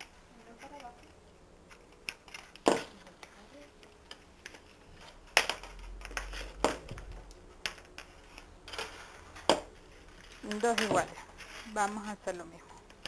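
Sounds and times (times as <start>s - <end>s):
faint rustling: 0.0s - 13.0s.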